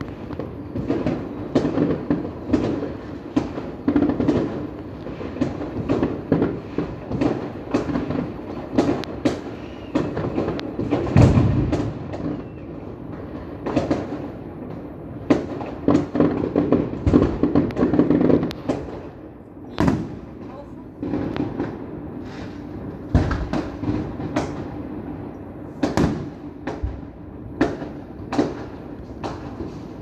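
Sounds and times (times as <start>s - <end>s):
fireworks bangs and crackles: 0.0s - 30.0s
deep heavy firework boom: 0.1s - 13.0s, 15.2s - 19.0s, 19.6s - 24.9s, 25.8s - 30.0s.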